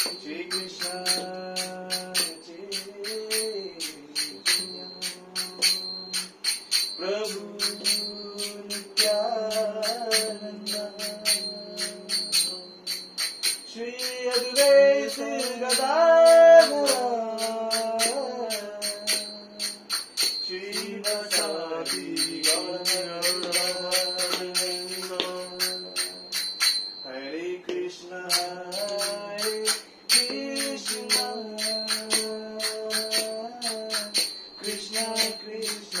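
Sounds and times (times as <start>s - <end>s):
man singing: 0.0s - 13.0s, 13.7s - 26.4s, 27.0s - 36.0s
hand cymbals clashing: 0.0s - 36.0s.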